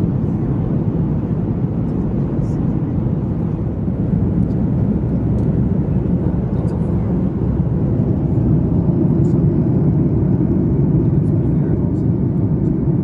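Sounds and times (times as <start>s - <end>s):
aircraft engine rumble: 0.0s - 13.0s.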